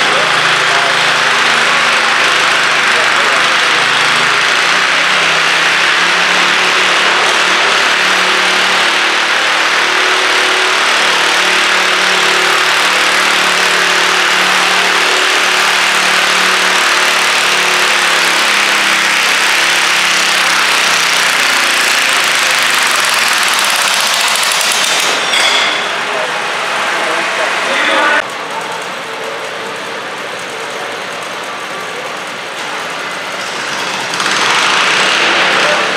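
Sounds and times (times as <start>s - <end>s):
tractor engine at high revs: 0.0s - 35.9s.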